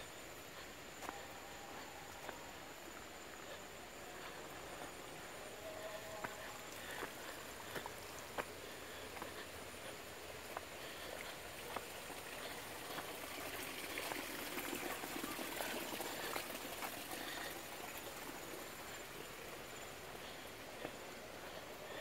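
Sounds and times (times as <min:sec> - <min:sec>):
water trickling through channels: 0:00.1 - 0:22.0.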